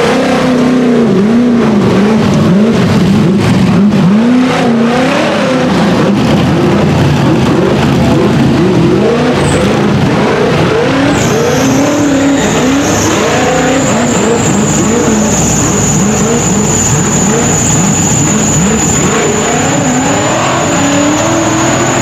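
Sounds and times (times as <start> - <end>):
buggy engine revving hard: 0.0 - 22.0
high-pitched whine: 0.0 - 22.0.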